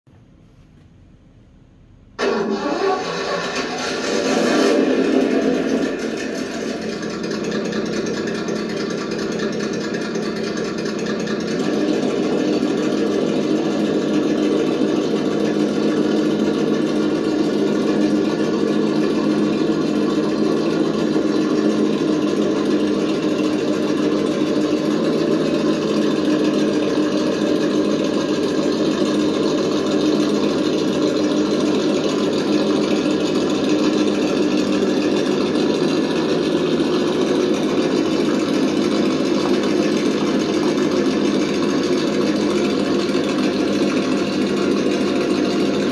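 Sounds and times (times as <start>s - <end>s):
rc car motor droning: 2.3s - 45.9s.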